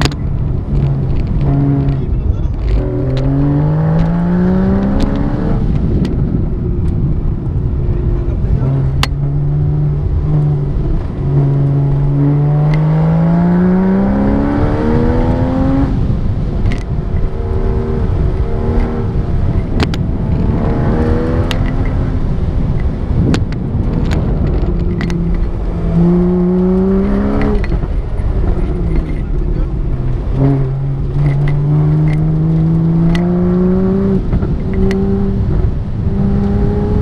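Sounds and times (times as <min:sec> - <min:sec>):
sports car engine revving: 0:00.0 - 0:06.3, 0:07.7 - 0:37.0.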